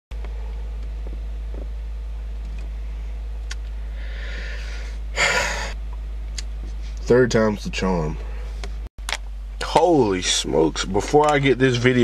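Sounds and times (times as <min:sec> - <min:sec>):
car cabin hum: 0:00.1 - 0:12.0.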